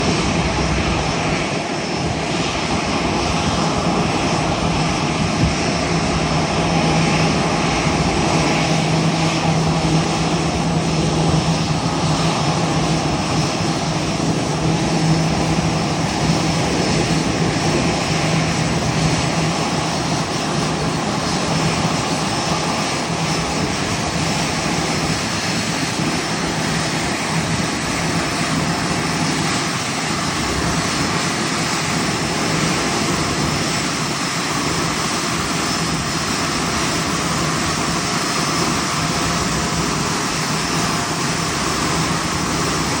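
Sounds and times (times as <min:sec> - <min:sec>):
jet engines droning: 0:00.0 - 0:43.0.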